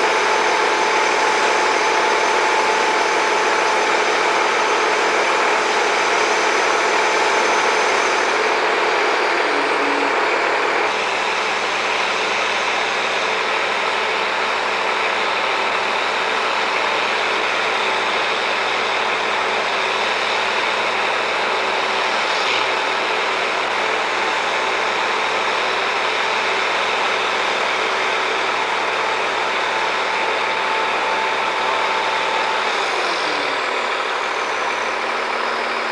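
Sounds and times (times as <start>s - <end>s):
heavy machinery engine running: 0.0s - 35.9s.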